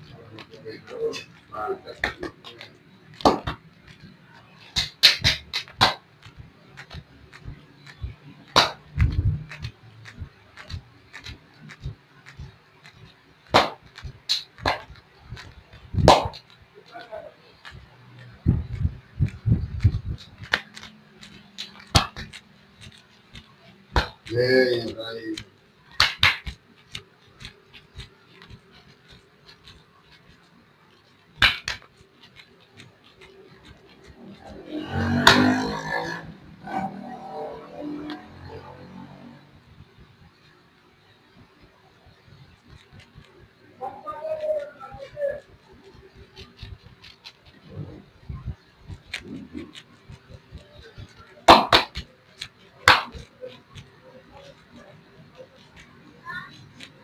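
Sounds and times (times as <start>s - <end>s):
hands slapping oiled skin: 0.0s - 36.9s, 42.4s - 57.0s.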